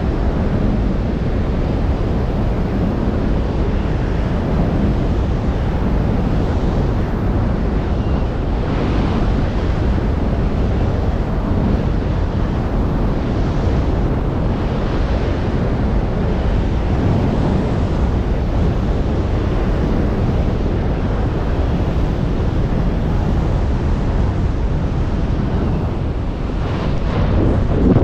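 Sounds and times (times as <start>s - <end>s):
air rushing past microphone: 2.6s - 28.0s.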